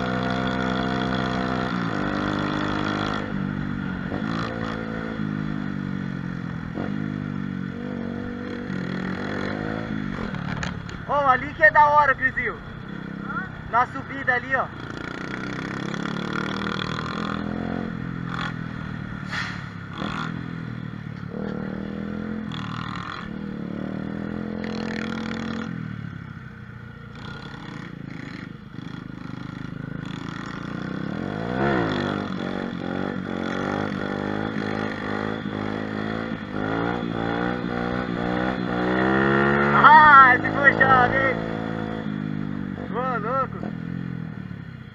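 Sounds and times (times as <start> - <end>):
mini motorbike engine revving: 0.0 - 11.1, 14.4 - 20.6, 21.2 - 26.4, 27.1 - 44.6.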